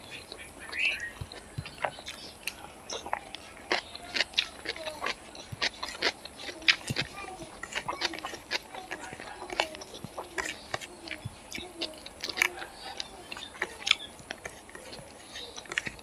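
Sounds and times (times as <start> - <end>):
person chewing with wet smacks: 0.0 - 16.0.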